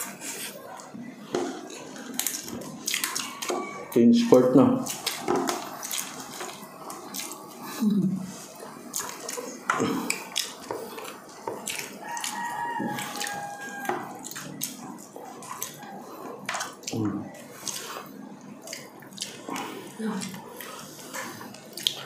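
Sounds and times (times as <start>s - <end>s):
chewing with wet smacks: 0.0s - 3.9s, 4.8s - 22.0s.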